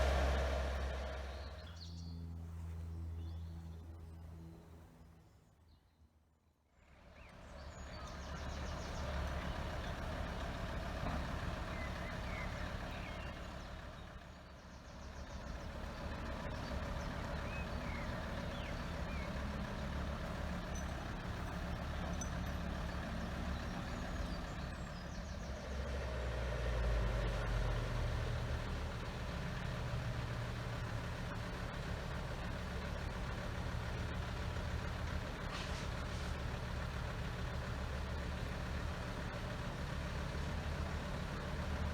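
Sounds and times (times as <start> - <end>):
lorry diesel engine running: 0.0 - 5.1, 7.0 - 41.9.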